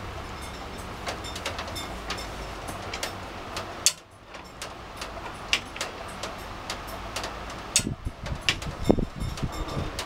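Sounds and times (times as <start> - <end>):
sharp rain ticks: 0.0 - 10.0.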